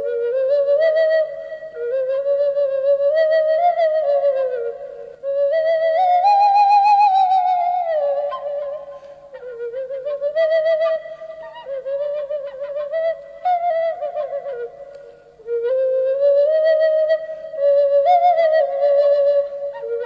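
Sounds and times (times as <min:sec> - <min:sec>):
slow flute-like melody: 0:00.0 - 0:20.0.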